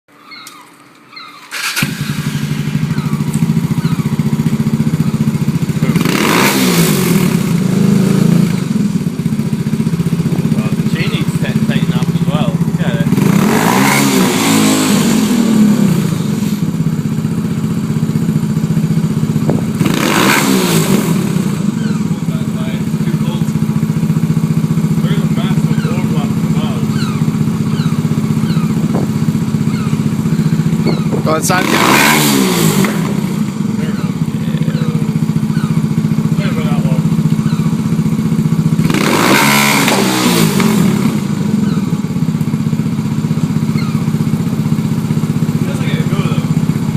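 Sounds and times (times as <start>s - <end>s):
single-cylinder engine idling and revving: 0.1s - 46.9s.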